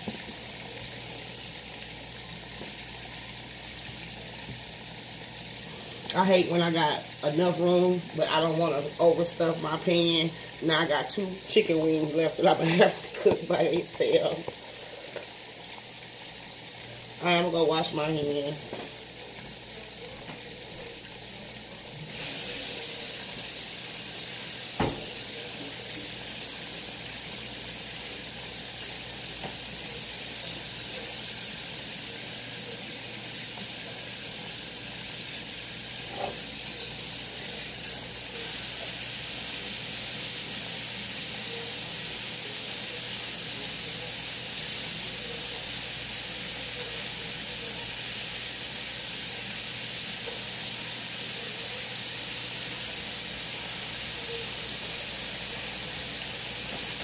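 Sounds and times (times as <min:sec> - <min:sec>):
chicken frying in grease: 0:00.0 - 0:57.0.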